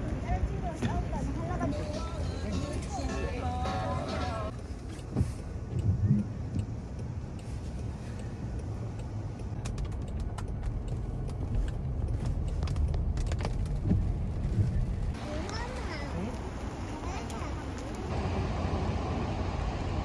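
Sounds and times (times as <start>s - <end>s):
road vehicle rumble: 0.0s - 20.0s.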